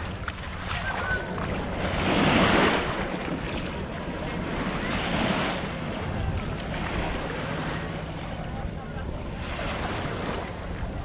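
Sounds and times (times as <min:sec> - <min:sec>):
small waves washing on shore: 0:00.0 - 0:11.0
wind on microphone: 0:00.0 - 0:11.0.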